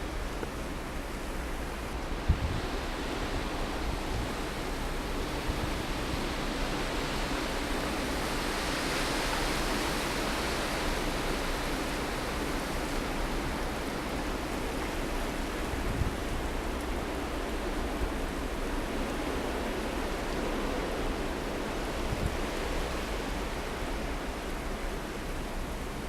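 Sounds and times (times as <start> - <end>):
blizzard wind blowing: 0.0 - 26.0.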